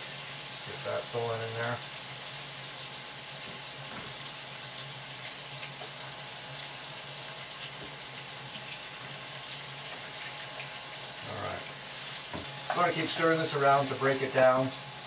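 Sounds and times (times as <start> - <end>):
meat sizzling in a pot: 0.0 - 15.0.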